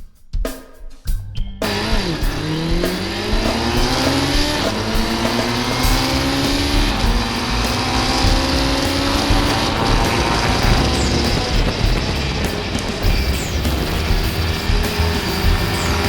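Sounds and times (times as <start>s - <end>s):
racing sidecar engine accelerating: 1.6s - 16.0s.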